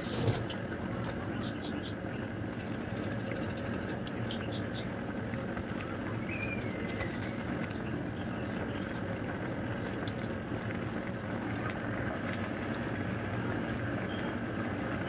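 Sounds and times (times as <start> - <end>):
broth simmering bubbling hiss: 0.0 - 15.0.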